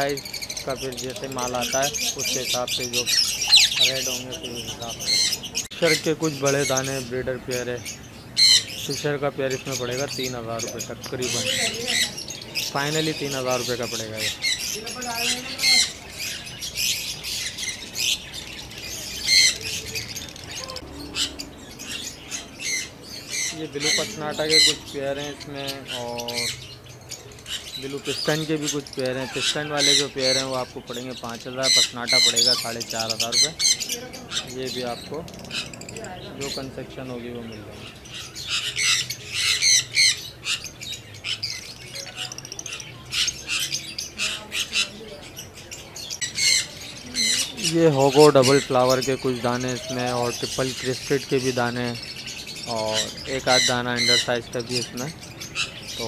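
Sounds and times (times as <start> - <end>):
lovebirds squawking and chirping: 0.0 - 56.0.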